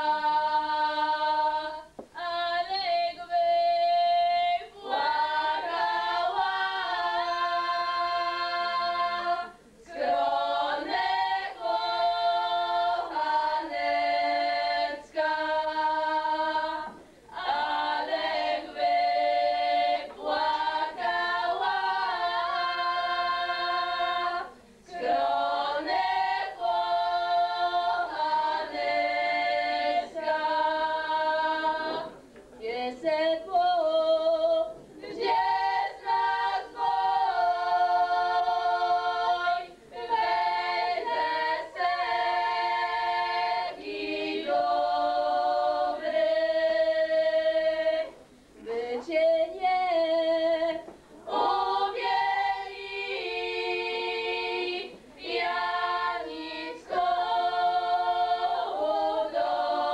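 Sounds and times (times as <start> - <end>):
girls singing a cappella: 0.0 - 59.9.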